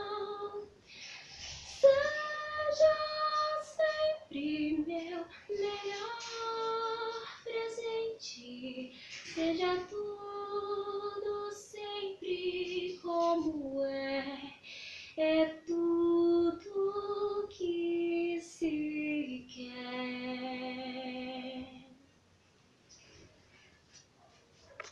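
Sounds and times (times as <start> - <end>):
girl singing unaccompanied: 0.0 - 22.0.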